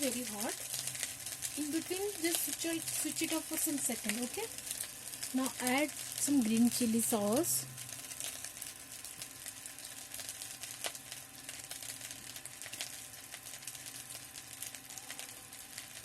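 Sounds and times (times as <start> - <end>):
noodles sizzling and crackling: 0.0 - 16.0.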